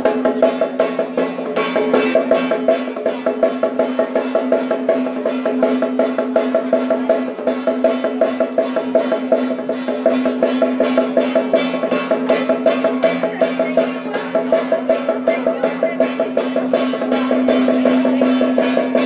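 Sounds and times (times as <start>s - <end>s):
rapid percussion strokes: 0.0s - 19.0s.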